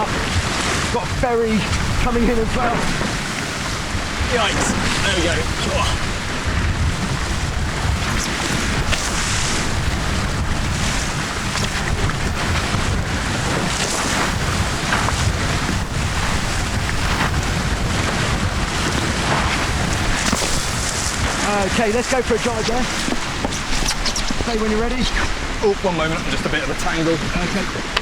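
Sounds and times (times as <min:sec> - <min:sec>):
water rushing past hulls: 0:00.0 - 0:28.0
wind buffeting microphone: 0:00.0 - 0:28.0.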